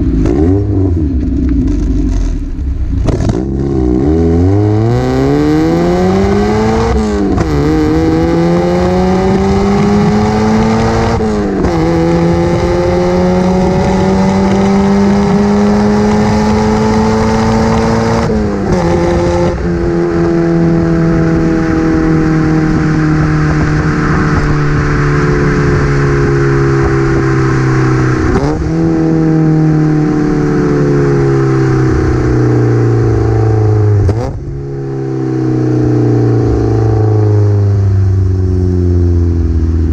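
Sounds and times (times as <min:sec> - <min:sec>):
raspy car exhaust accelerating: 0:00.0 - 0:39.9.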